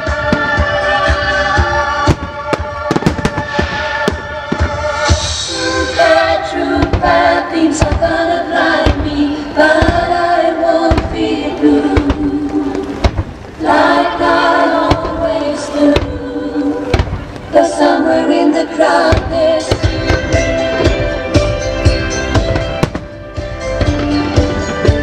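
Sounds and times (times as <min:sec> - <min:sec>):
fireworks bangs: 0:00.0 - 0:01.2, 0:01.8 - 0:18.0, 0:18.8 - 0:24.8
loud choral music: 0:00.0 - 0:25.0.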